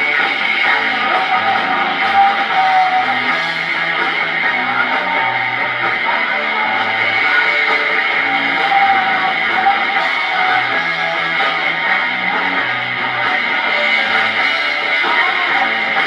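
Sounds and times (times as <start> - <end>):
bass line: 0.0 - 16.0
live rock band playing: 0.0 - 16.0
strummed electric guitar: 0.0 - 16.0.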